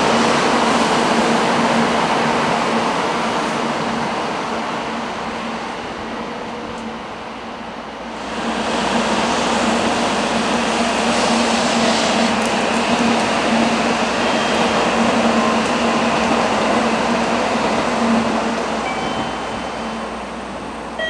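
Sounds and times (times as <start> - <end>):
high-speed train rushing past: 0.0 - 21.0.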